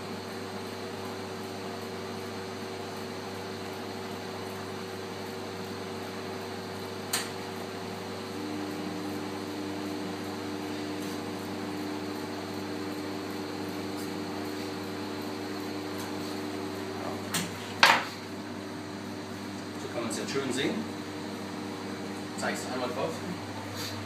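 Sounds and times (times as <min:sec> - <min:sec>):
machine humming: 0:03.7 - 0:24.0.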